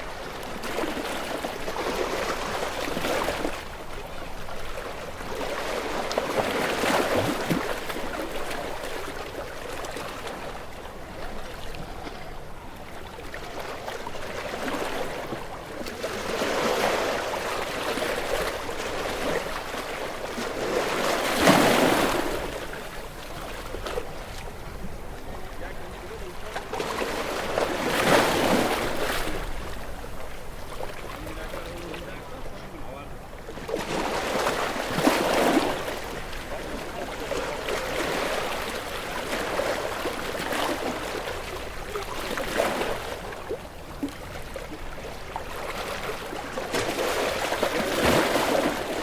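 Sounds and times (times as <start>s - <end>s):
waves breaking against rocks: 0.0s - 49.0s.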